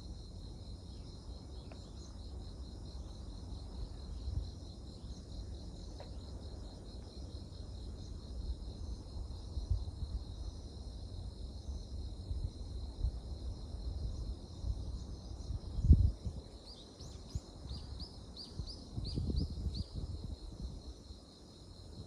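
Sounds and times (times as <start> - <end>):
night insects chirping: 0.0 - 22.0.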